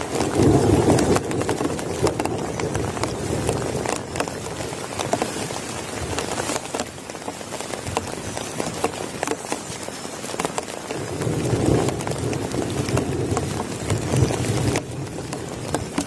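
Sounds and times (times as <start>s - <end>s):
heavy rain falling: 0.0s - 16.0s
raindrops tapping on a surface: 0.0s - 16.0s.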